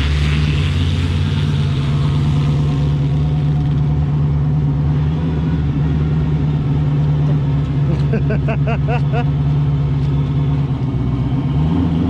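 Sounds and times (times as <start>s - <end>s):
drag car engine running: 0.0s - 12.0s.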